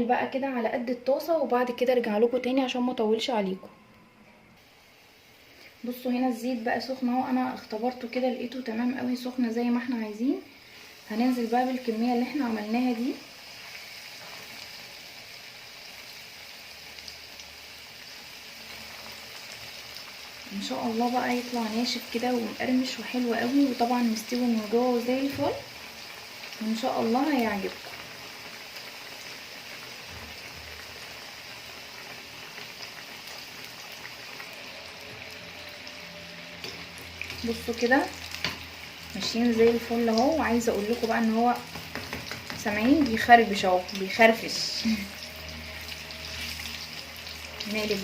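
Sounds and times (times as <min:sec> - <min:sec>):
food sizzling in hot oil: 0:04.6 - 0:48.0.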